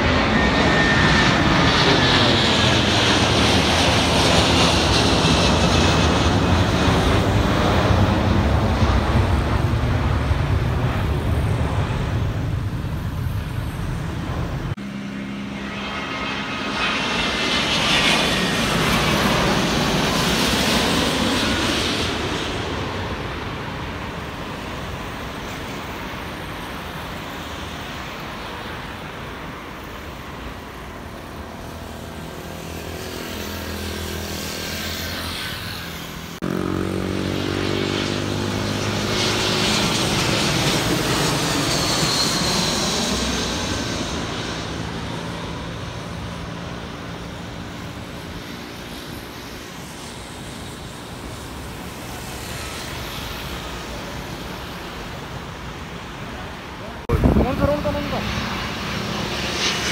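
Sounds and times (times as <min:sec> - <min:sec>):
airliner passing low overhead: 0:00.0 - 0:59.9
jet engine rumble: 0:00.0 - 0:59.9.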